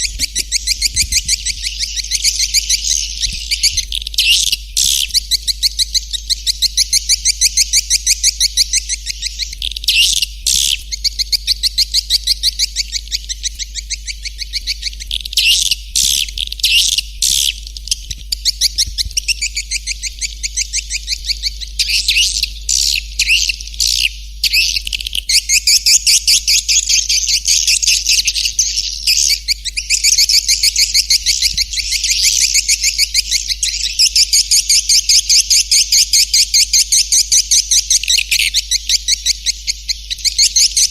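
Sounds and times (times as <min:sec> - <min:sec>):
steady low hum: 0:00.0 - 0:40.9
swiftlets twittering chirps: 0:00.0 - 0:40.9.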